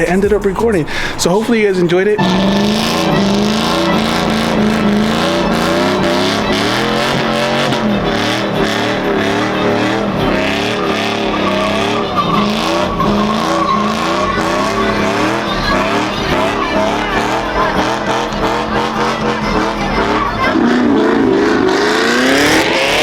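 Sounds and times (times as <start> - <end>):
car engine revving: 0.0 - 23.0
tyres squealing: 0.0 - 23.0.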